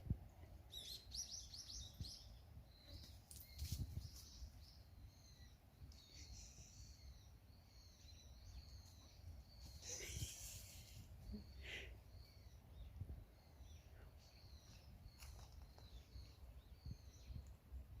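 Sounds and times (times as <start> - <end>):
small birds chirping: 0.4 - 18.0.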